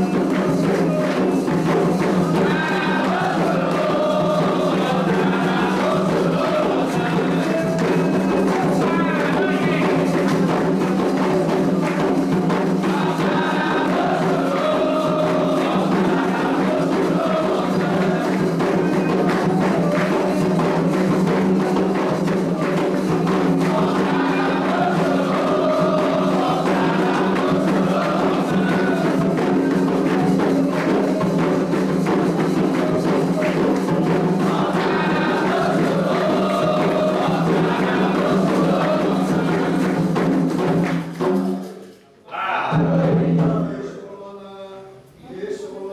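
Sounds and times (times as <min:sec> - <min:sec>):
group of voices chanting: 0:00.0 - 0:41.3, 0:42.2 - 0:44.1
hand percussion: 0:00.0 - 0:43.7.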